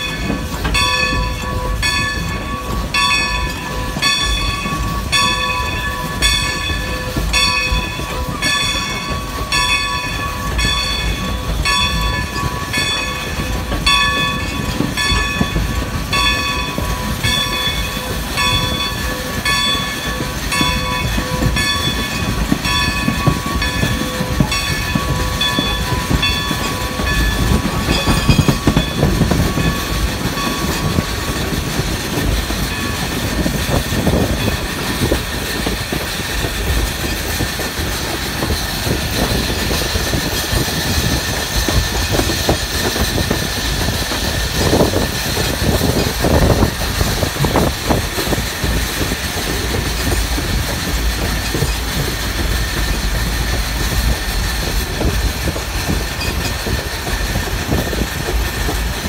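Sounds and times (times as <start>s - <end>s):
steam locomotive rumble: 0.0s - 59.0s.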